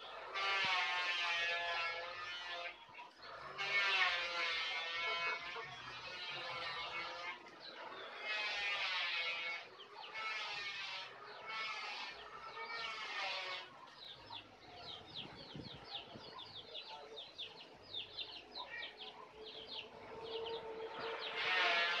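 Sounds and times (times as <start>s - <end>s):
bird chirping: 4.2s - 22.0s.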